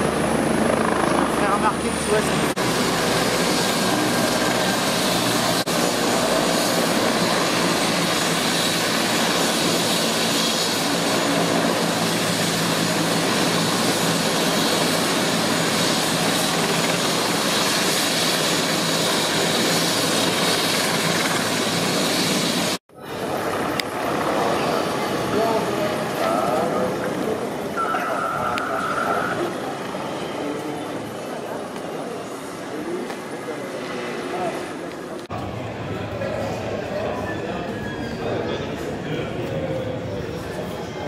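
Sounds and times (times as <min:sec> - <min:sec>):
helicopter engine and rotor whine: 0:00.0 - 0:41.0.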